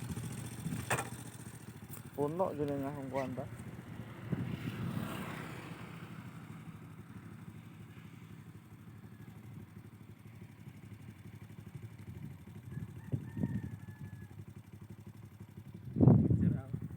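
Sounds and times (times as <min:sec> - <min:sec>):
small engine running: 0:00.0 - 0:16.9.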